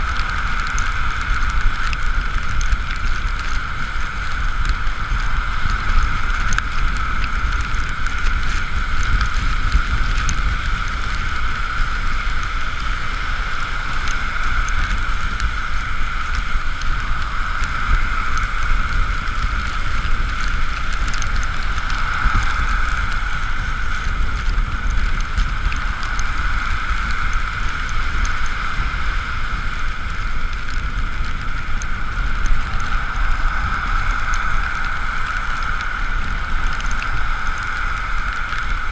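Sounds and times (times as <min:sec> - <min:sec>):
high electric whine: 0:00.0 - 0:38.9
tyre hiss on wet road: 0:00.0 - 0:38.9
wind rumble: 0:00.0 - 0:38.9.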